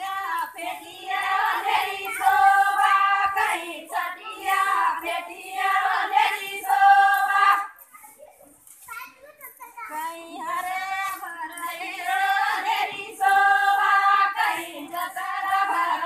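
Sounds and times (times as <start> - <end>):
women singing devotional song: 0.0 - 8.0, 9.9 - 16.0.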